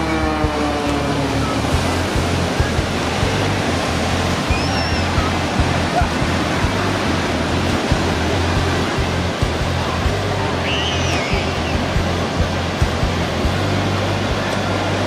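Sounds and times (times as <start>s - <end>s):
aircraft passing drone: 0.0s - 15.0s
ocean surf rushing: 0.0s - 15.0s.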